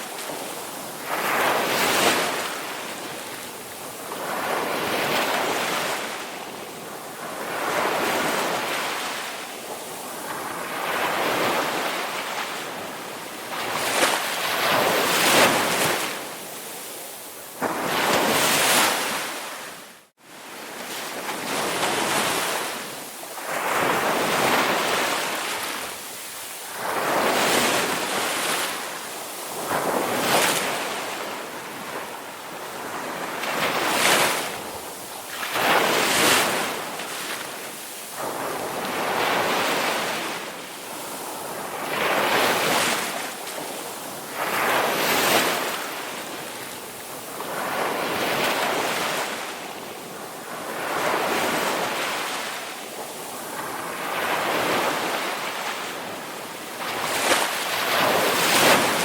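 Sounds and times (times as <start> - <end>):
ocean waves washing onto shore: 0.0 - 59.0.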